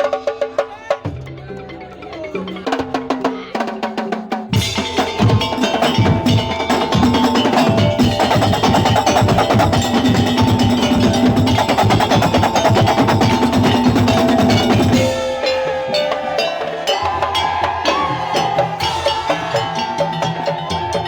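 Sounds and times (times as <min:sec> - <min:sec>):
percussion music: 0:00.0 - 0:21.0.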